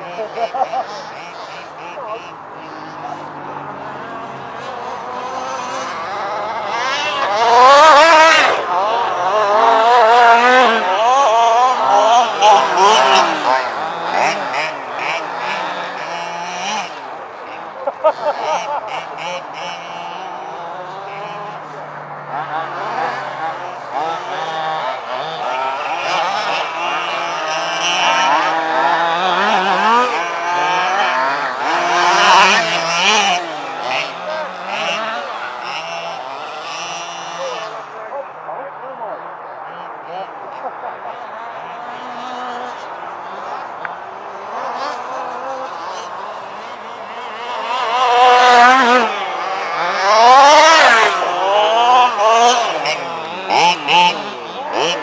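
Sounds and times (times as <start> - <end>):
small two-stroke engines revving: 0.0 - 55.0.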